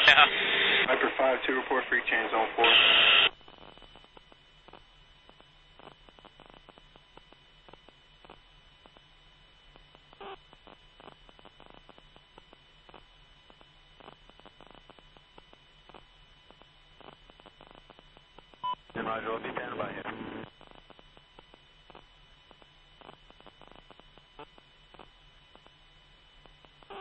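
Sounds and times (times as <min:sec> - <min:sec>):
static crackles: 0:00.0 - 0:27.0
faint electrical hum: 0:00.1 - 0:27.0.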